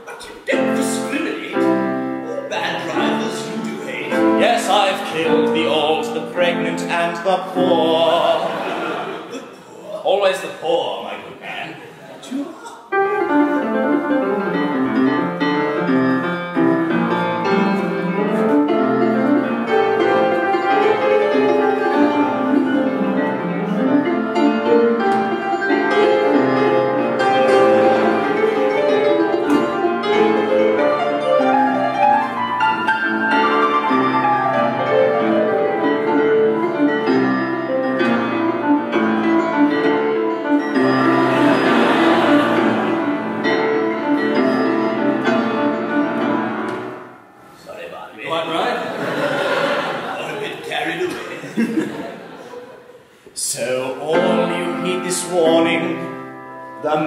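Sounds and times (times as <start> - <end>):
grand piano playing: 0.0 - 9.4, 12.9 - 47.6, 48.2 - 57.0.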